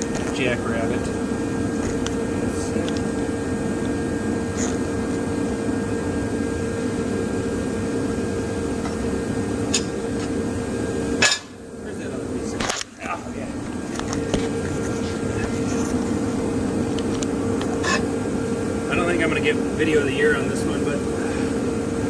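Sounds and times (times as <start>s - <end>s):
mechanical hum with held tone: 0.0s - 22.0s.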